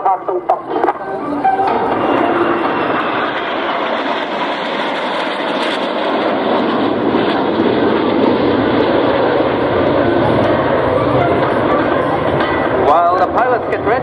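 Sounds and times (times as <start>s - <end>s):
fighter jets passing: 0.0s - 14.0s.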